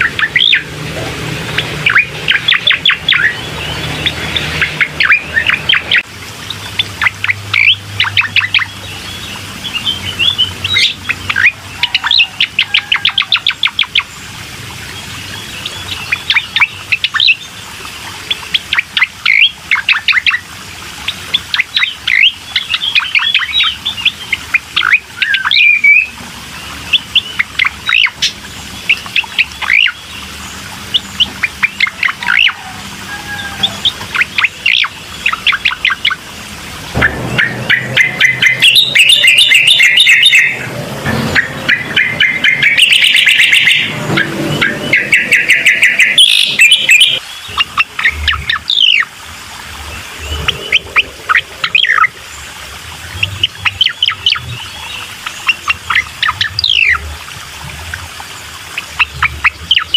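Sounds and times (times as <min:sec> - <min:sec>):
songbird chirping and trilling: 0:00.0 - 0:49.1, 0:49.8 - 0:57.3, 0:58.7 - 0:59.9.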